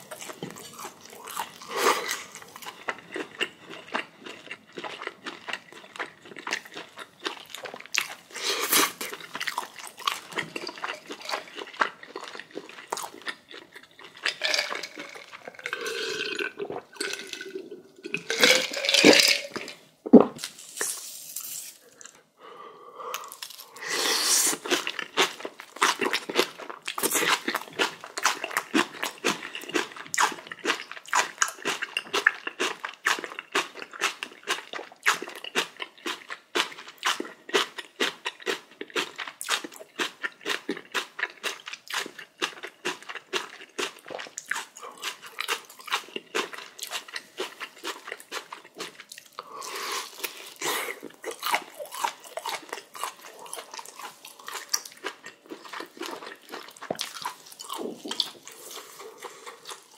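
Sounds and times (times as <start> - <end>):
chewing and crunching: 0.0 - 19.8, 23.1 - 59.9.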